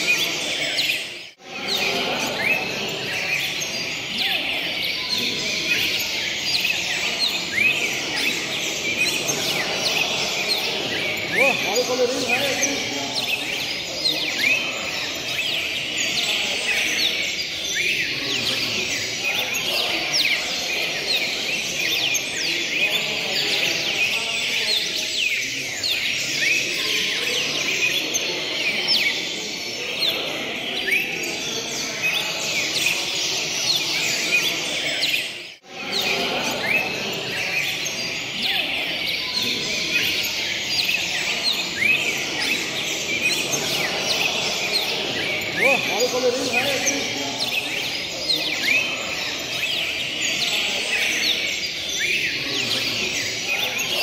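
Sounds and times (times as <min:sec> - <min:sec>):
low background murmur: 0:00.0 - 0:54.0
songbirds chirping in chorus: 0:00.0 - 0:54.0.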